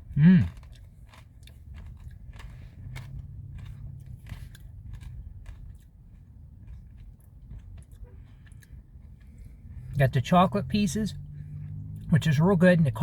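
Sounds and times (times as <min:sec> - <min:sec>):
person chewing crunchy food: 0:00.0 - 0:10.0, 0:10.8 - 0:12.3
low steady hum: 0:00.0 - 0:13.0.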